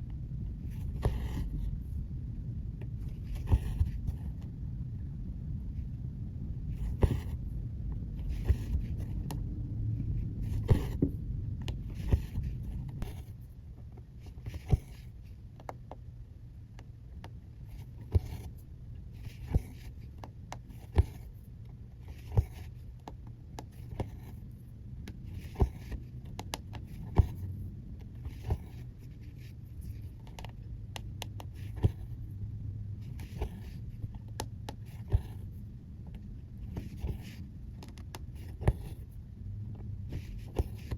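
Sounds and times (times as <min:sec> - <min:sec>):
low steady rumble: 0:00.0 - 0:40.9.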